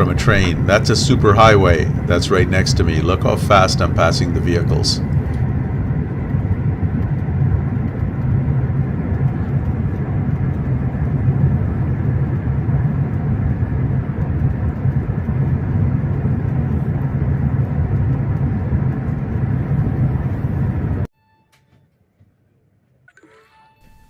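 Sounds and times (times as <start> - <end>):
train rumble inside carriage: 0.0 - 21.1.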